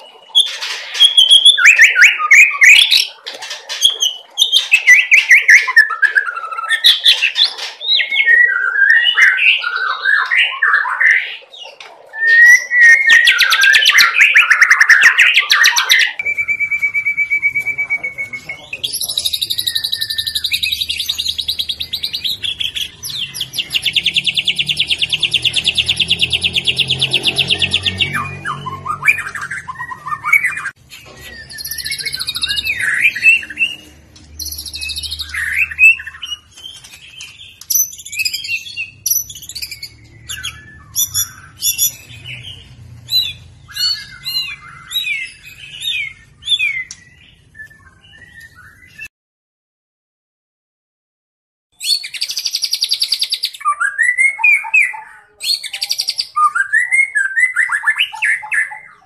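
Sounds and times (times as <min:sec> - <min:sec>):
bird singing: 0:00.0 - 0:49.1, 0:51.8 - 0:59.0.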